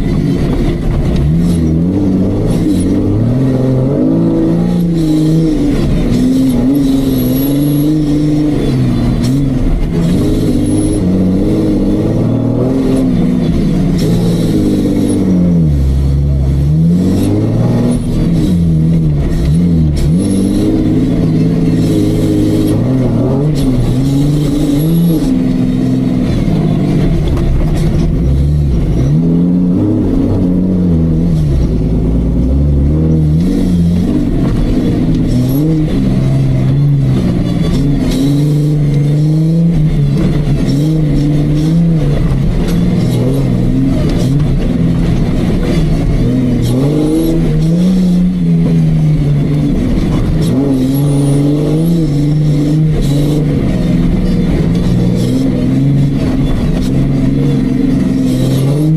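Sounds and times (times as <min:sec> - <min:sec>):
engine revving under load: 0:00.0 - 0:58.9.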